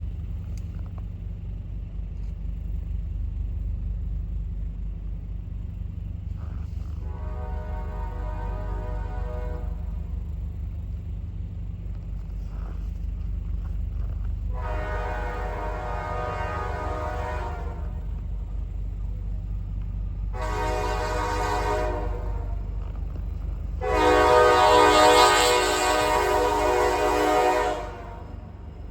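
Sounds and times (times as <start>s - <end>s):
diesel locomotive rumble: 0.0s - 28.9s.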